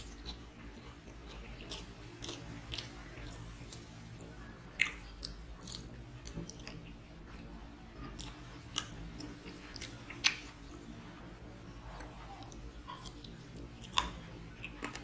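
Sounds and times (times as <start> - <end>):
chewing with wet mouth sounds: 0.0 - 11.1, 11.8 - 15.0.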